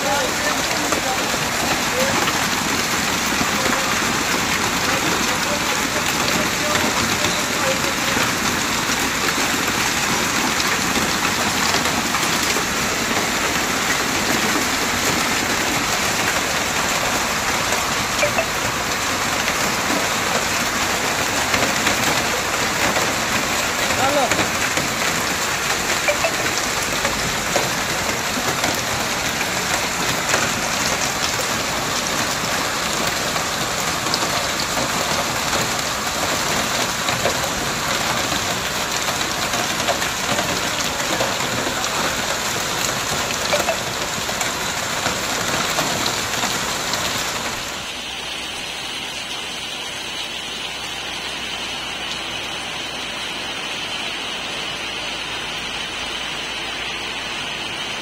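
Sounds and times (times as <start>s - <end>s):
hail and heavy rain pelting: 0.0s - 58.0s
soft steady rain: 0.0s - 58.0s.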